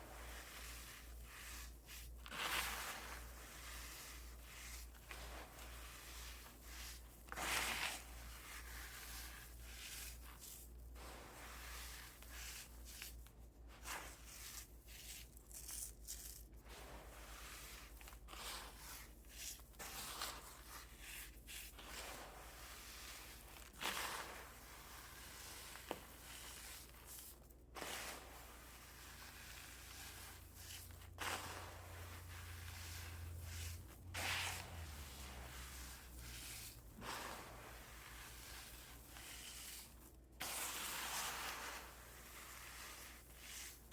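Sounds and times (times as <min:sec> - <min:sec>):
cornstarch crunching: 0:00.0 - 0:13.2, 0:13.8 - 0:43.9.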